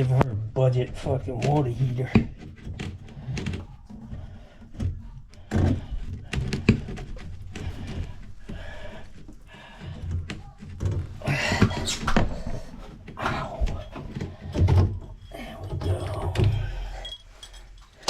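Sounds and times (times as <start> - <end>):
tools knocking and clunking: 0.1 - 18.0.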